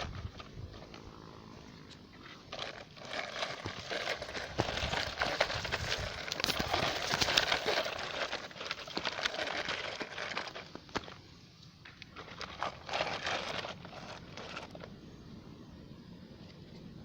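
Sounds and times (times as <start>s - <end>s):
dirt and stones crunching: 0.0s - 15.4s.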